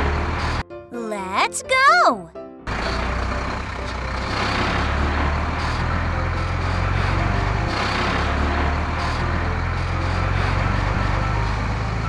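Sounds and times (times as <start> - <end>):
heavy truck engines running: 0.0 - 0.6, 2.7 - 12.0.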